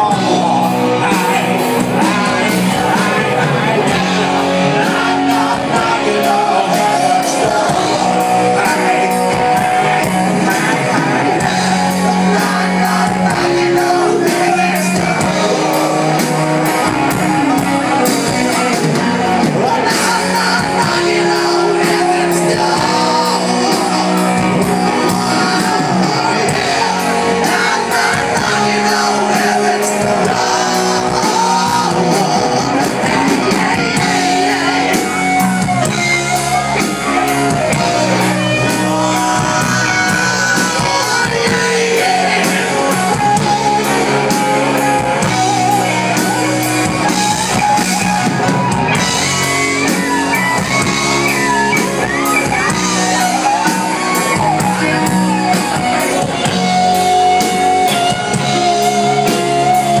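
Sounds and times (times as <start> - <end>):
lead vocal singing: 0.0 - 60.0
live rock band playing: 0.0 - 60.0.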